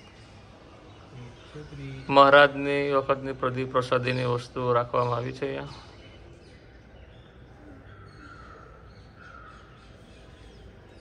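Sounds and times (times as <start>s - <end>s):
birds chirping: 0.0s - 11.0s
steady low background noise: 0.0s - 11.0s.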